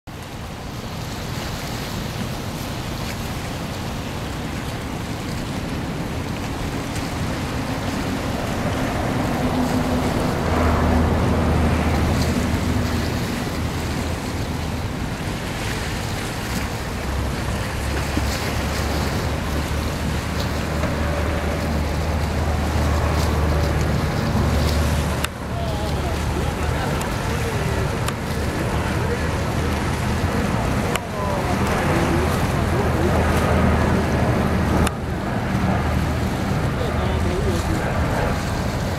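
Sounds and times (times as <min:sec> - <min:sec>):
deep steady rumble: 0:02.3 - 0:38.9
jet engine rushing: 0:04.2 - 0:38.9.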